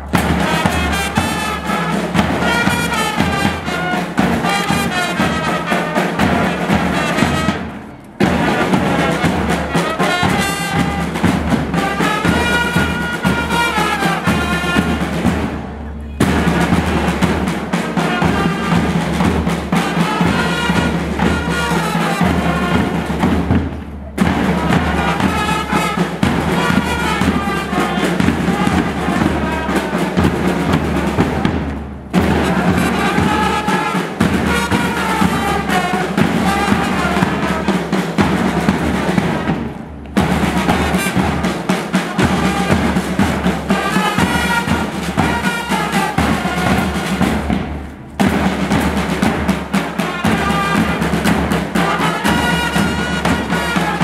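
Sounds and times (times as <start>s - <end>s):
sousaphones and trumpets: 0.0s - 23.5s, 24.2s - 39.6s, 40.2s - 47.5s, 48.9s - 54.0s
bass and side drums: 0.0s - 54.0s.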